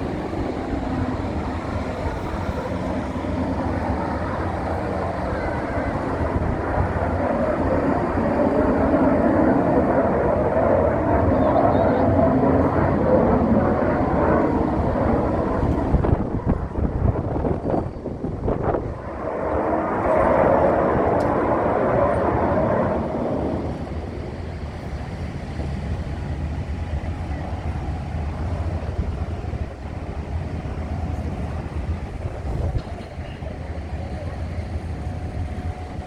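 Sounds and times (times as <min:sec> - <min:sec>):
aircraft engine rumble: 0:00.0 - 0:36.0
wind on microphone: 0:00.0 - 0:36.0.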